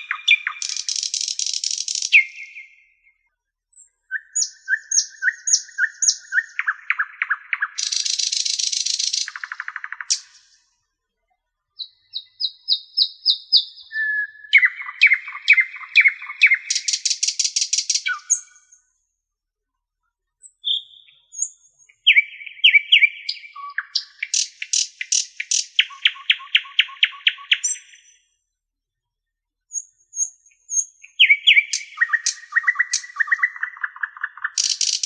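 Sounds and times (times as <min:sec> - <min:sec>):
songbird chirping and trilling: 0:00.0 - 0:10.8, 0:11.7 - 0:19.0, 0:20.4 - 0:28.4, 0:29.7 - 0:35.0.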